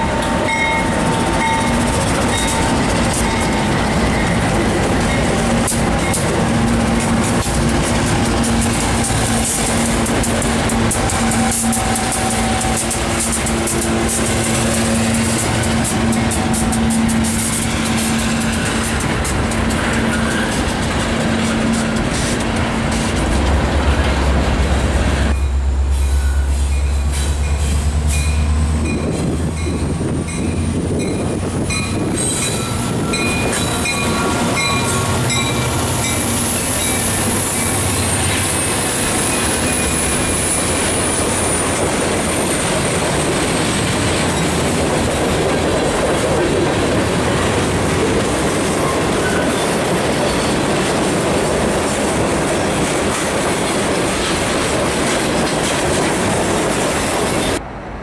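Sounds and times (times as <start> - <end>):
wheels squealing on rails: 0.0 - 57.6
diesel locomotive rumble: 0.0 - 58.0.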